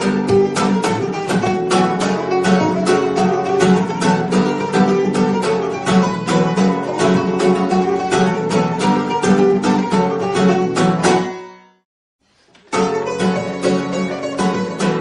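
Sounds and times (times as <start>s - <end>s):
plucked-string instrumental music: 0.0s - 11.8s, 12.6s - 15.0s.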